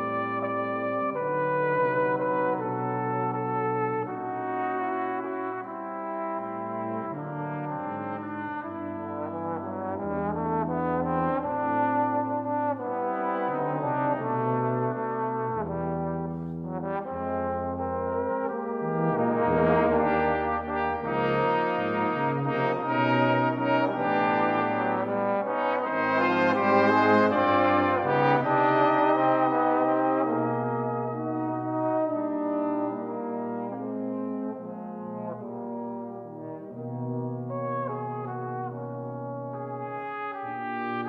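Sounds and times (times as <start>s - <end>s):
brass quintet playing ballad: 0.0s - 41.0s.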